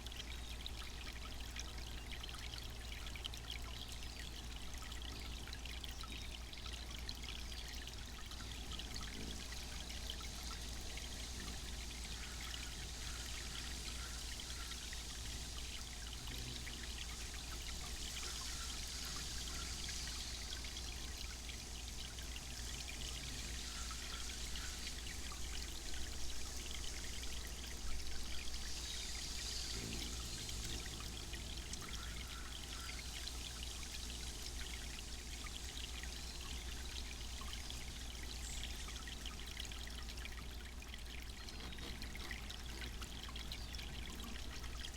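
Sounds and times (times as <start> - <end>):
low steady hum: 0.0 - 44.9
water fountain splashing: 2.4 - 44.9.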